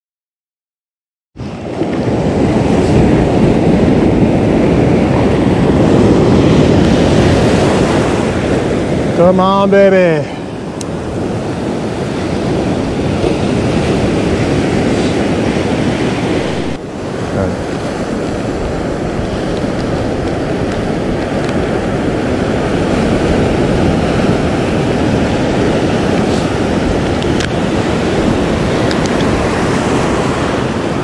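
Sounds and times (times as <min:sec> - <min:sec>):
ocean surf breaking: 0:01.4 - 0:31.0
wind buffeting microphone: 0:01.4 - 0:31.0.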